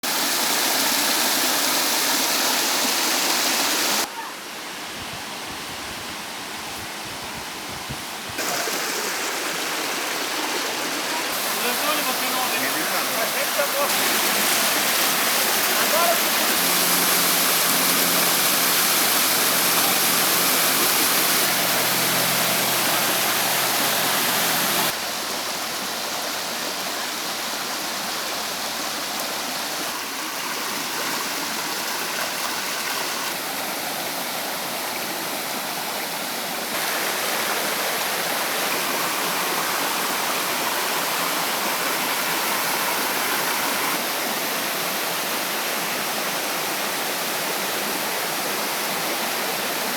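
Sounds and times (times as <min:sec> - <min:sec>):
waterfall rushing: 0:00.0 - 0:05.5, 0:06.2 - 0:49.9.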